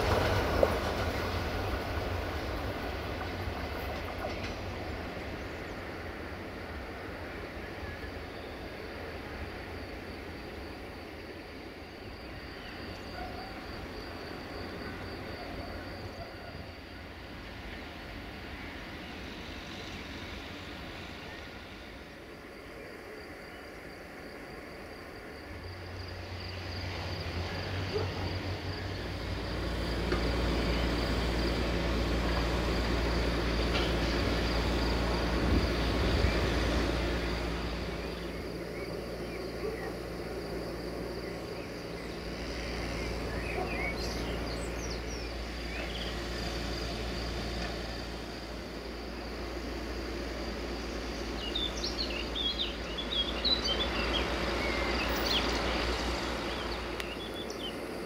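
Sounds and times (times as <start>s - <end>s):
high insect trill: 0.0s - 58.0s
low engine rumble: 0.0s - 58.0s.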